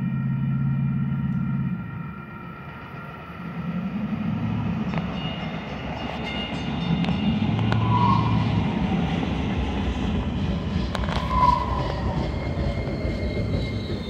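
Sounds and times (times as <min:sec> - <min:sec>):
light-rail train rumble and hum: 0:00.0 - 0:14.0
high squeal: 0:00.1 - 0:09.2, 0:10.6 - 0:14.0.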